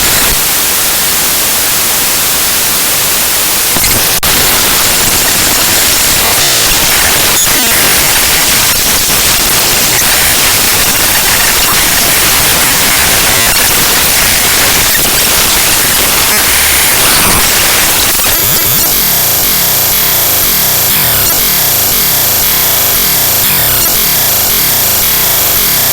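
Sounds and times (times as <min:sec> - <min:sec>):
loud harsh static: 0:00.0 - 0:25.9.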